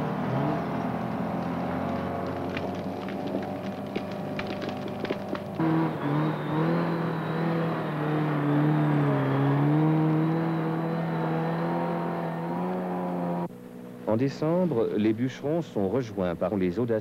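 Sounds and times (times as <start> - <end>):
log skidder engine running hard: 0.0 - 13.9.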